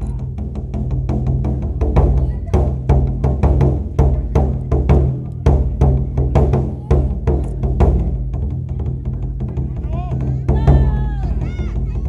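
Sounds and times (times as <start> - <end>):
taiko drums in fast rhythm: 0.0 - 12.0.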